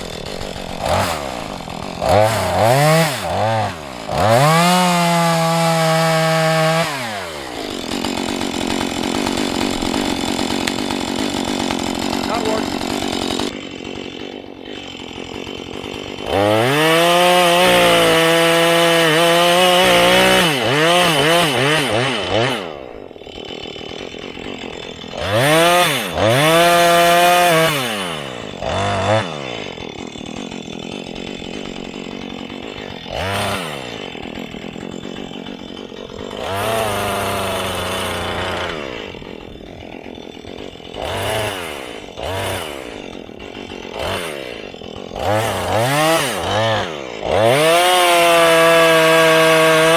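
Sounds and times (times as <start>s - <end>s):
chain cutting into wood: 0.0s - 49.9s
chainsaw idling and revving: 0.0s - 49.9s.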